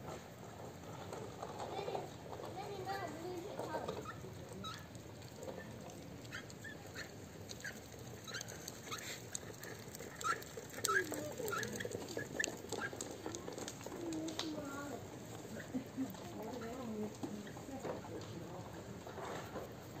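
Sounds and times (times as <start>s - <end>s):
cats chewing food: 0.4s - 20.0s.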